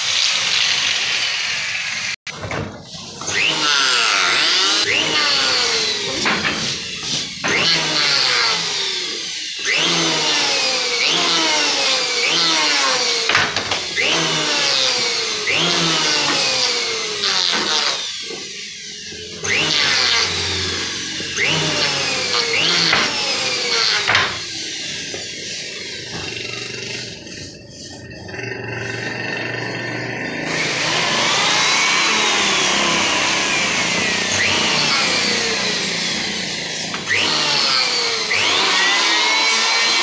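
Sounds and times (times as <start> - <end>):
electric wood planer whining: 2.9 - 40.0.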